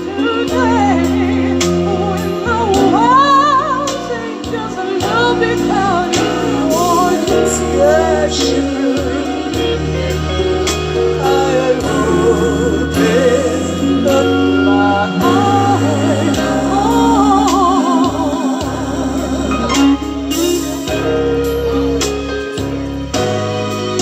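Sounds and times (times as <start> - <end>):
woman singing with vibrato: 0.0 - 10.0, 11.2 - 22.1
instrumental backing with bass: 0.0 - 24.0.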